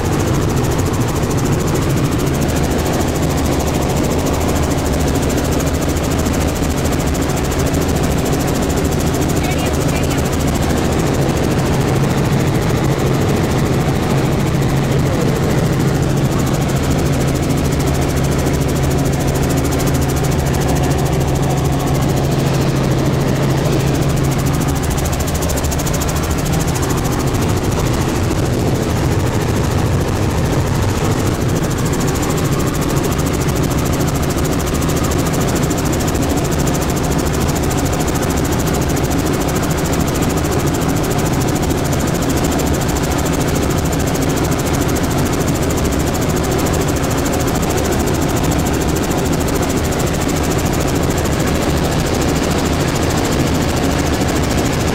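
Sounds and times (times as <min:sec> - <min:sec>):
helicopter engine and rotor drone: 0:00.0 - 0:54.9.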